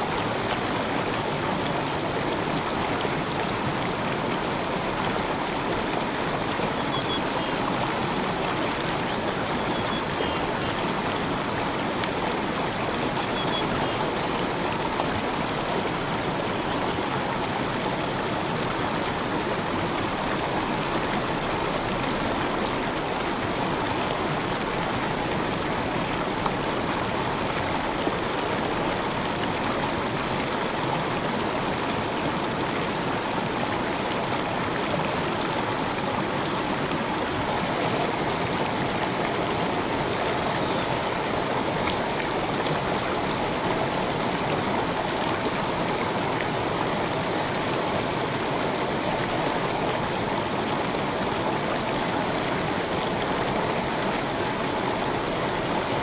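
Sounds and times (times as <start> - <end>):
stream flowing over stones: 0.2 - 56.0.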